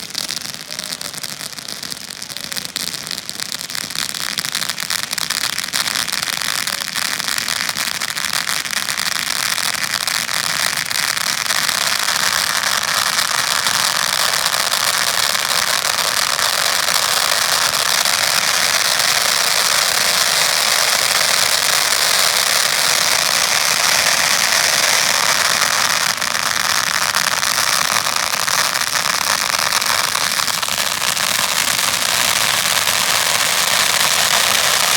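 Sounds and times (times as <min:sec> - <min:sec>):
fireworks crackling: 0:00.0 - 0:34.9.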